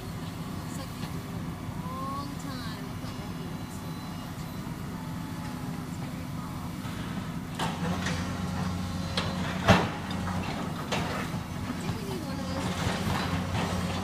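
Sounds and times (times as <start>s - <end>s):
excavator engine hum: 0.0s - 14.0s.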